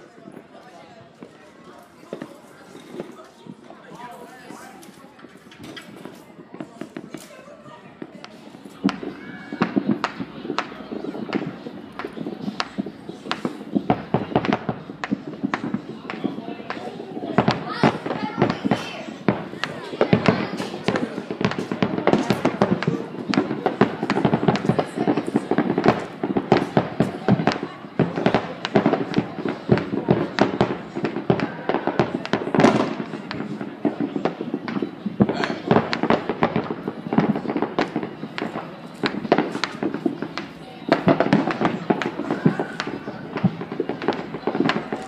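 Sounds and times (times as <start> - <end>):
crowd murmur: 0.0 - 45.0
fireworks bangs and crackles: 0.0 - 45.0.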